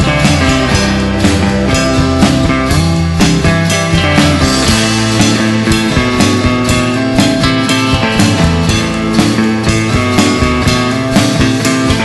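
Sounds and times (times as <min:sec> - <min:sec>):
drum kit steady beat: 0:00.0 - 0:12.0
guitars: 0:00.0 - 0:12.0
upright bass: 0:00.0 - 0:12.0.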